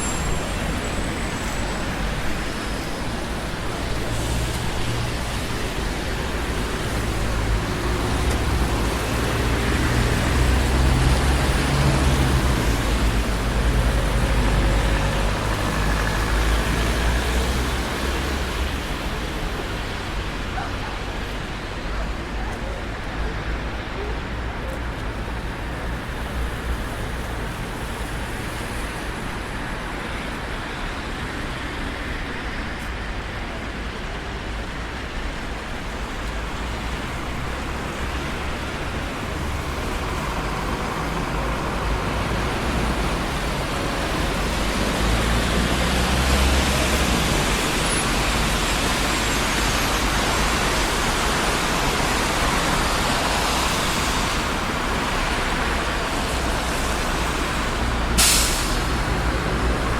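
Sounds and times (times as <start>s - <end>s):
heavy vehicle rumble: 0.0s - 59.9s
passing cars and tyre noise: 0.0s - 59.9s.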